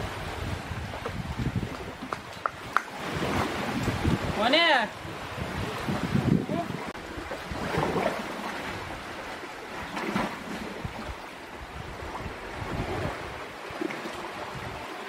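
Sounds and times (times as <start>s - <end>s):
sea surf on rocky shore: 0.0s - 15.0s
wind on microphone: 0.0s - 15.0s.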